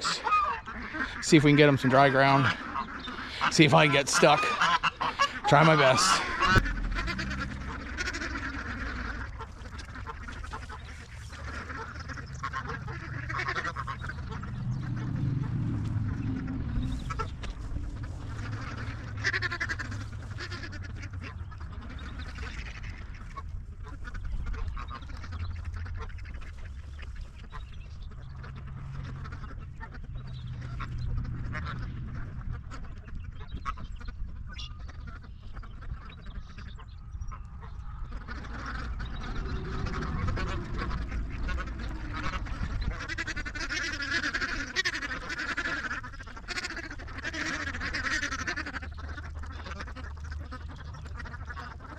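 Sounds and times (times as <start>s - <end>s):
ducks quacking: 0.0s - 51.9s
steady low rumble: 0.0s - 51.9s.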